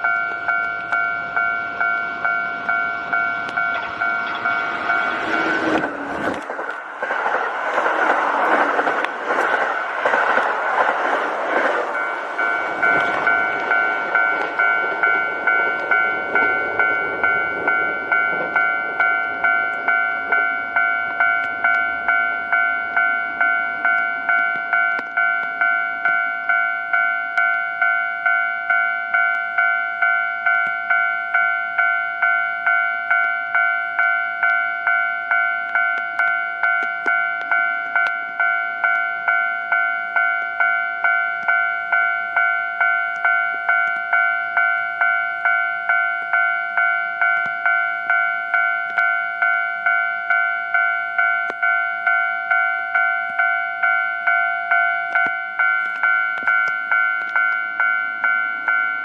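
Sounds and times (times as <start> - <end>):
crossing warning bell ringing: 0.0 - 59.0
electric train passing: 0.0 - 59.0.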